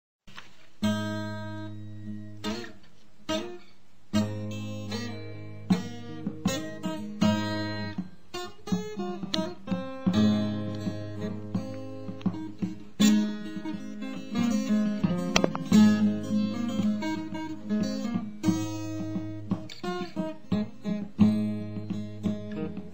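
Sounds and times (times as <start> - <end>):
acoustic guitar strumming chords: 0.3 - 22.9.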